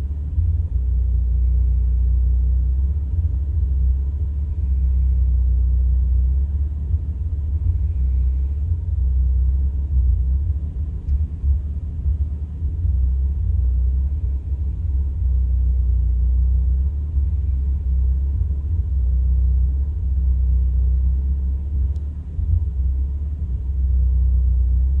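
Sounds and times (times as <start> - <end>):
muffled engine idling rough: 0.0 - 25.0.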